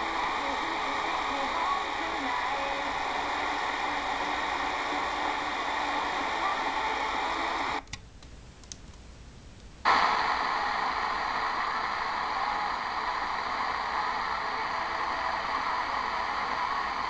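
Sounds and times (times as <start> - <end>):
faint radio programme: 0.0 - 7.9, 9.9 - 17.0
radio static and hiss: 0.0 - 7.9, 9.8 - 17.0.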